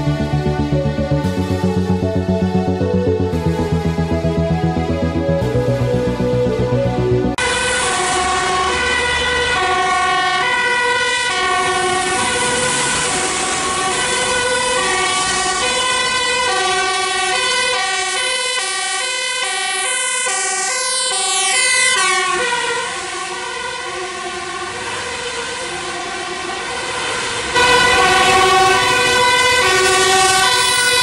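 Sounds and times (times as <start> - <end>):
fire engine two-tone siren: 0.0 - 31.0.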